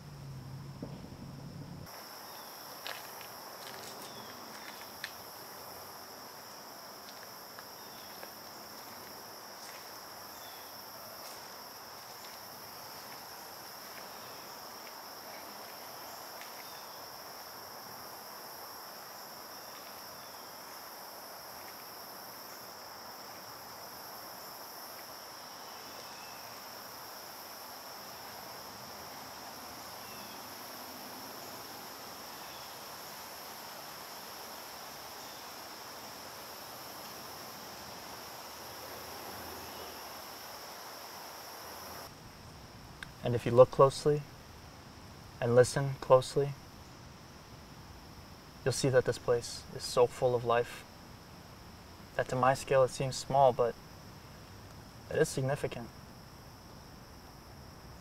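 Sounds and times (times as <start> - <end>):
insect chorus trilling: 0.0 - 58.0.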